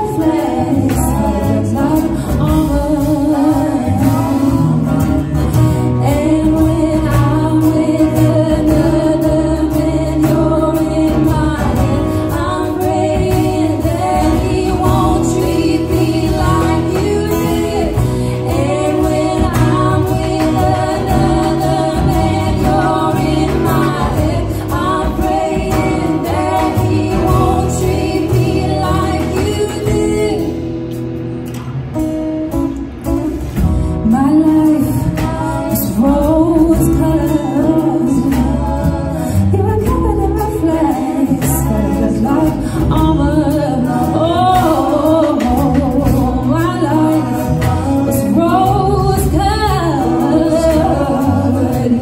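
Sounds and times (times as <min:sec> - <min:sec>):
backing singers: 0:00.0 - 0:31.0, 0:34.1 - 0:52.0
woman singing lead: 0:00.0 - 0:31.3, 0:32.0 - 0:52.0
guitar: 0:00.0 - 0:52.0
upright double bass: 0:00.0 - 0:52.0.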